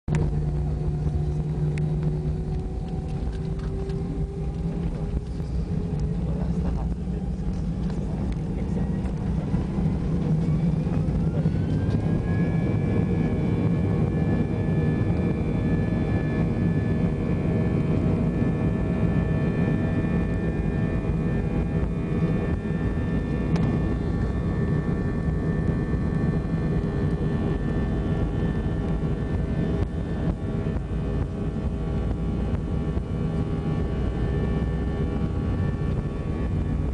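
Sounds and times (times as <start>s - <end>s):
cabin drone: 0.1s - 36.9s.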